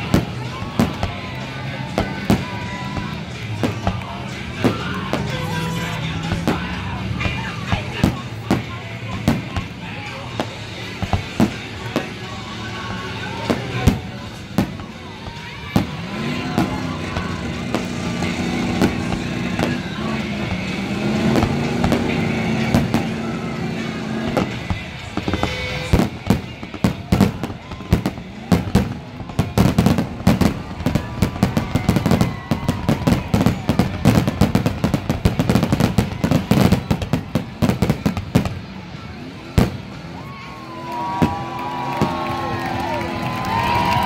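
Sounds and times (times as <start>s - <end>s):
music with long held notes: 0.0s - 39.8s
fireworks bursting with bangs: 0.0s - 44.0s.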